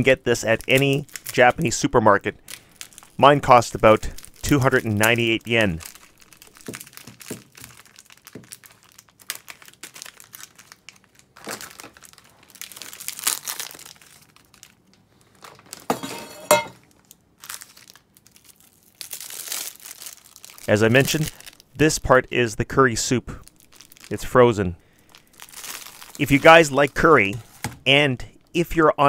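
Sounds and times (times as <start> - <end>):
plastic wrap crinkling: 0.0 - 21.8, 23.3 - 27.8.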